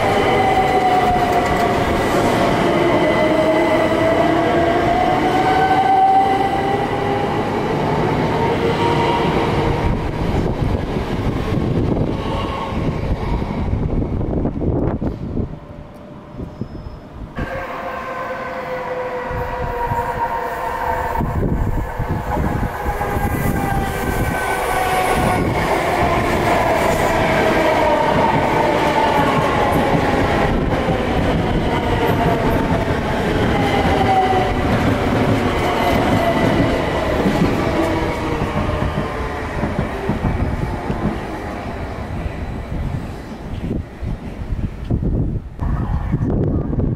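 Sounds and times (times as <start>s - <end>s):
train wheels rumbling on track: 0.0s - 17.7s, 18.6s - 46.9s.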